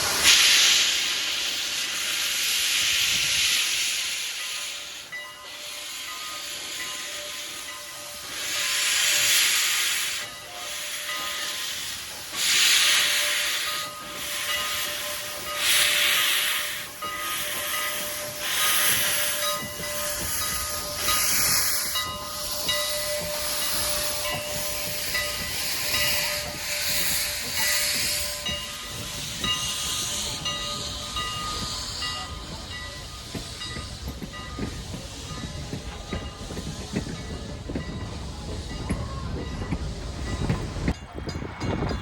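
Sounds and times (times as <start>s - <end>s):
low rumble of train: 0.0s - 42.0s
steam locomotive hissing steam: 0.0s - 42.0s.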